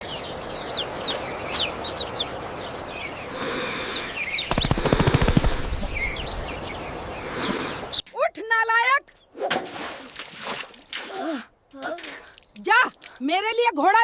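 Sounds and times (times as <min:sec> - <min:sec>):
small birds chirping: 0:00.0 - 0:09.4, 0:11.1 - 0:14.0.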